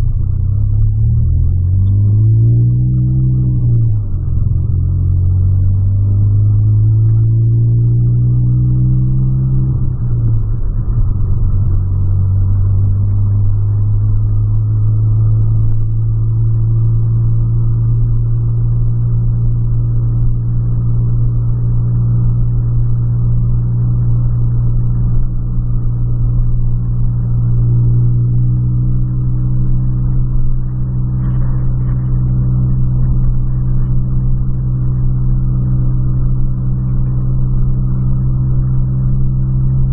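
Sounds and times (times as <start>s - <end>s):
car engine drone from cabin: 0.0s - 39.9s.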